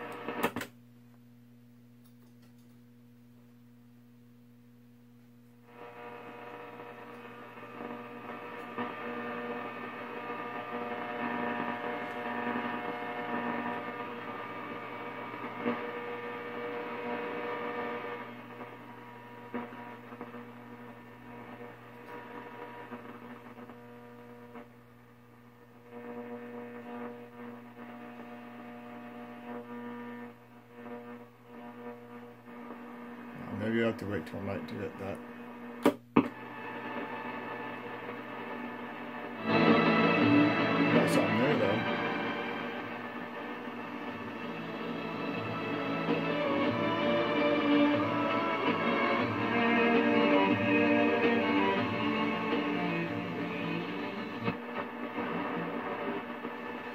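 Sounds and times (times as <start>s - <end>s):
radio speaker humming: 0.0s - 56.9s.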